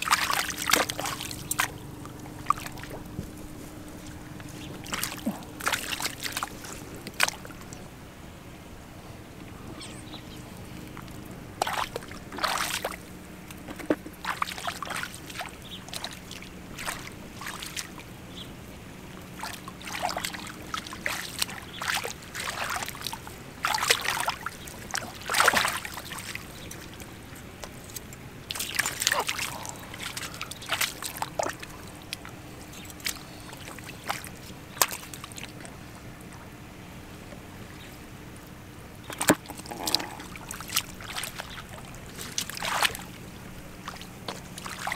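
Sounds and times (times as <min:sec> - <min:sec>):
hands splashing in muddy water: 0:00.0 - 0:07.8, 0:11.0 - 0:18.0, 0:19.3 - 0:27.8, 0:28.4 - 0:35.8, 0:39.0 - 0:44.9
faint low hum: 0:00.0 - 0:44.9.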